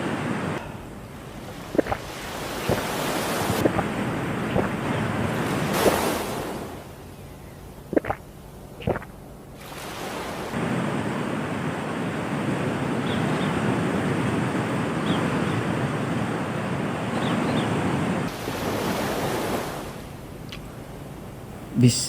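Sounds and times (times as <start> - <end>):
ocean surf washing onto beach: 0.0 - 6.9, 9.6 - 22.0.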